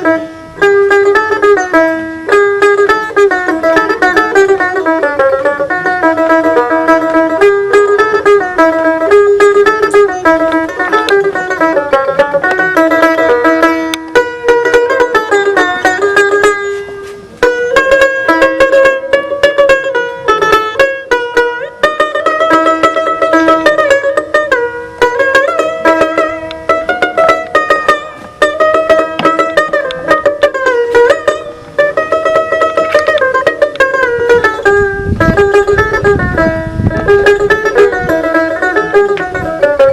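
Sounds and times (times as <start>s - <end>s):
plucked lute melody: 0.0s - 39.9s.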